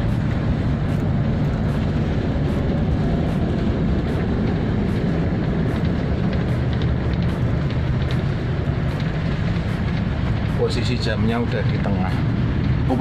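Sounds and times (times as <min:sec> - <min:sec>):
diesel bus engine idling: 0:00.0 - 0:13.0.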